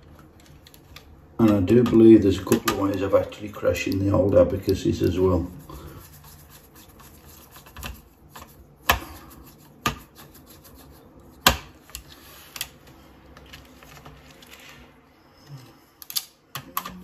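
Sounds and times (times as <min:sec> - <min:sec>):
wires rubbing and scraping: 0:00.0 - 0:16.2.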